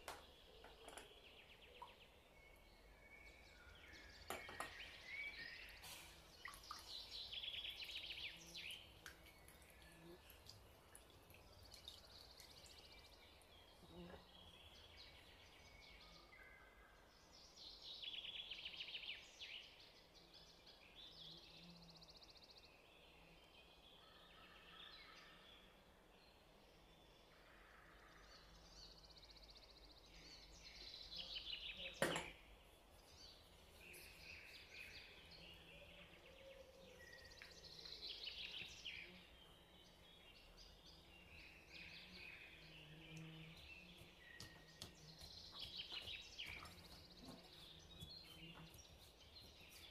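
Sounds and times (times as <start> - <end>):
low background hiss: 0.0 - 44.2
faint birds chirping: 0.0 - 49.9.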